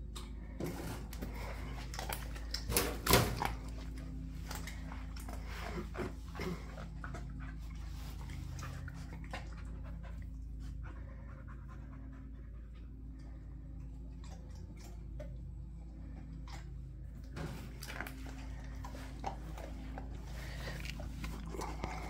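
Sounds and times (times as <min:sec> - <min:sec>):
steady low hum: 0:00.0 - 0:22.0
dog panting: 0:03.4 - 0:17.1, 0:17.7 - 0:22.0.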